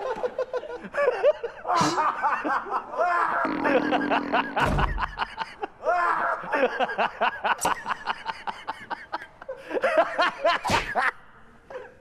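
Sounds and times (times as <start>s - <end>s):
men laughing hard: 0.0s - 11.1s.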